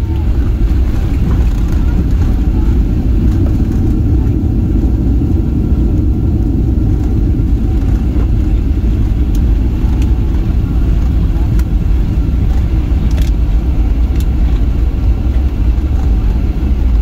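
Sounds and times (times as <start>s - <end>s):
airplane landing roll rumble: 0.0s - 17.0s.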